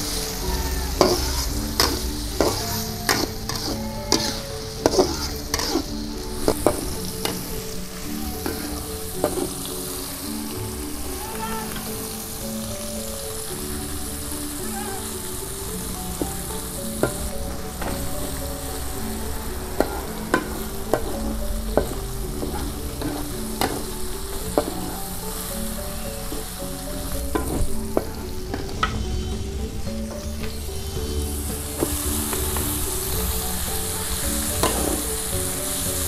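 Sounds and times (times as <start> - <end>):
metal spatula scraping wok: 0.0 - 10.8, 15.5 - 36.0
vegetables sizzling in oil: 0.0 - 36.0.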